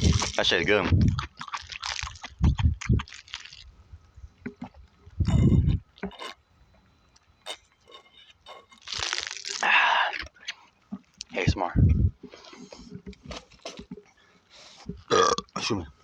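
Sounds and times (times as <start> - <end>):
person gulping a drink: 0.0 - 3.7, 4.4 - 6.4, 7.5 - 14.1, 14.8 - 15.6.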